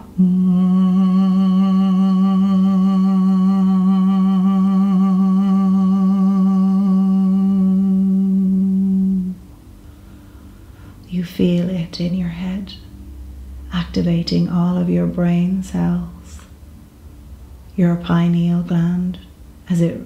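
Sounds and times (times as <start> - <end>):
woman singing a low tone: 0.0 - 9.6, 10.8 - 12.9, 13.6 - 16.6, 17.7 - 20.0.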